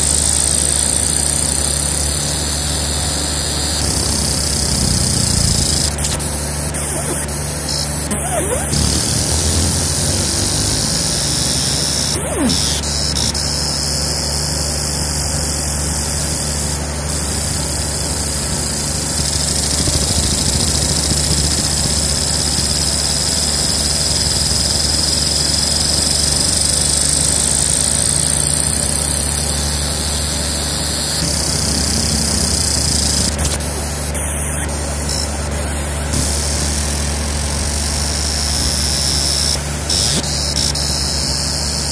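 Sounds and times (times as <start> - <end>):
laser whine and hiss: 0.0 - 41.9
low machine hum: 0.0 - 41.9.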